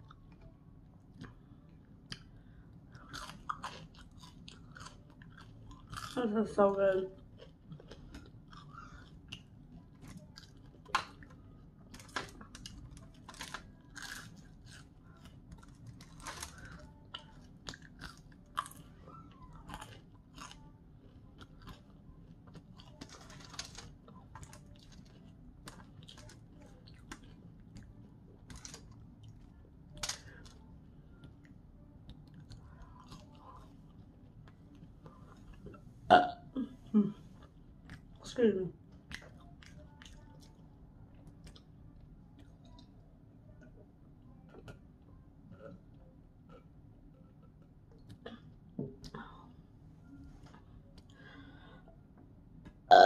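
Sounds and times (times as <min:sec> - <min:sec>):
chewing crispy food: 0:00.0 - 0:36.2, 0:37.2 - 0:51.8.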